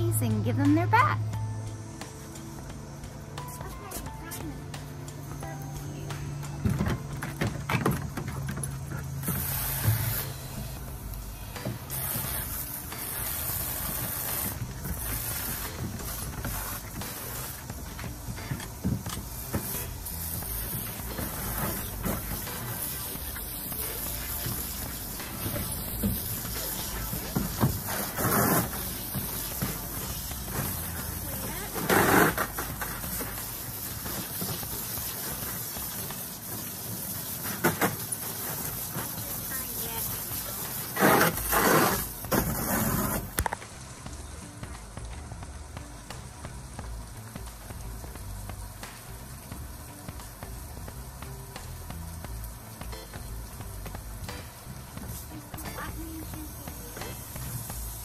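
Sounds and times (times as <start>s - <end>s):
garden hose spraying water: 0.0s - 58.0s.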